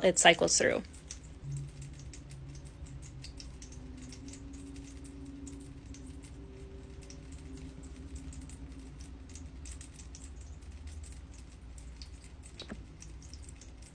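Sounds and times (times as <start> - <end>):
low steady hum: 0.0 - 13.9
water drops dripping into basin: 0.9 - 13.9.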